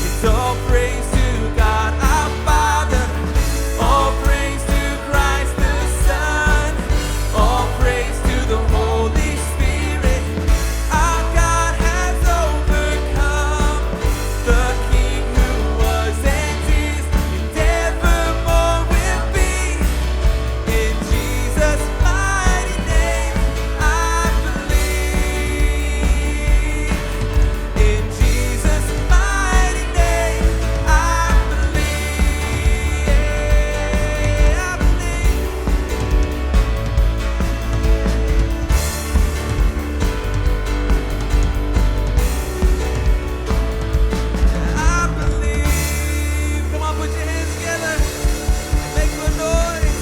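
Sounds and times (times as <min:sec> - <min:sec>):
bass line: 0:00.0 - 0:50.0
drums keeping steady beat: 0:00.0 - 0:50.0
worship band playing: 0:00.0 - 0:50.0.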